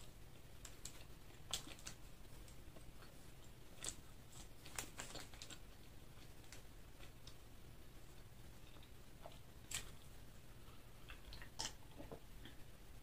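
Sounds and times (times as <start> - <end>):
crunching and chewing fried food: 0.0 - 7.4, 8.6 - 12.7.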